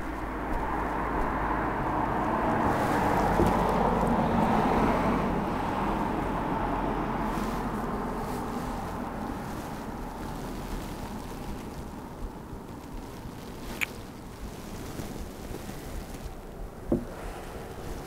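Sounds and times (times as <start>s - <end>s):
car passing: 0.0s - 18.0s.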